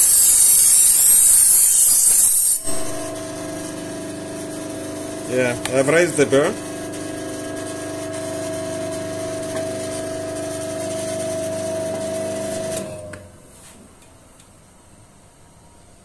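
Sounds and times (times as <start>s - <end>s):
bench grinder humming: 0.0s - 13.0s.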